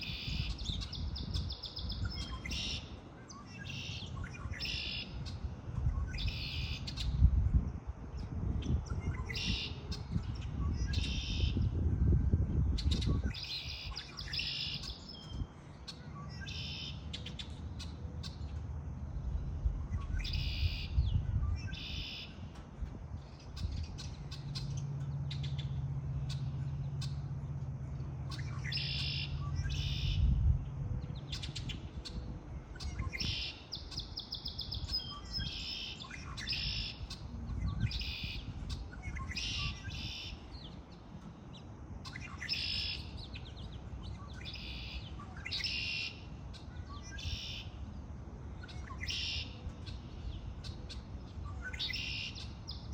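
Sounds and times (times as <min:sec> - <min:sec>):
birds twittering: 0:00.0 - 0:52.9
steady low hum: 0:00.0 - 0:52.9.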